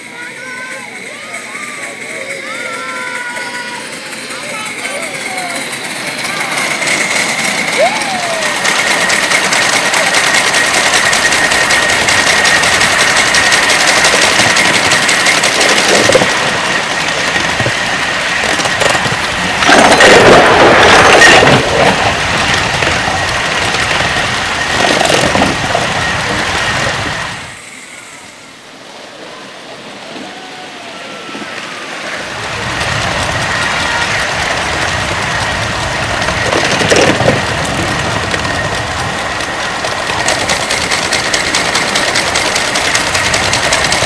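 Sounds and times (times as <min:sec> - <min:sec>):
model steam locomotive running: 0:00.0 - 0:44.0.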